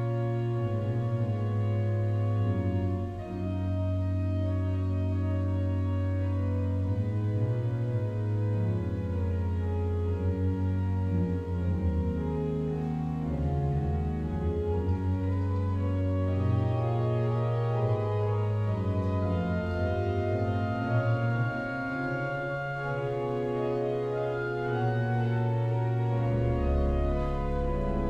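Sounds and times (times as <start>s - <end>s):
pipe organ playing chords: 0.0s - 28.0s.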